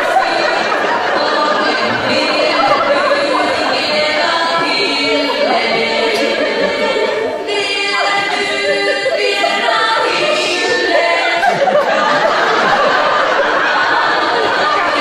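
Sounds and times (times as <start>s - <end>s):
women singing in harmony: 0.0s - 15.0s.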